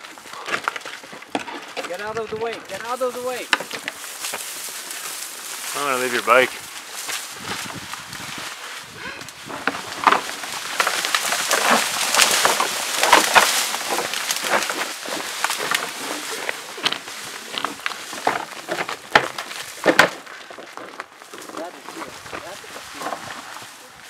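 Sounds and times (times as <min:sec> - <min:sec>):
antlers clacking: 0:00.0 - 0:06.5, 0:09.1 - 0:23.5
branches cracking and rustling: 0:00.0 - 0:24.0.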